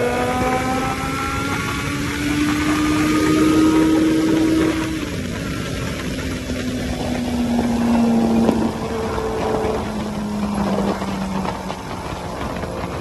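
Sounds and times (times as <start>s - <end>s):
motorcycle engine at road speed: 0.0s - 13.0s
wind rushing over microphone: 0.0s - 13.0s.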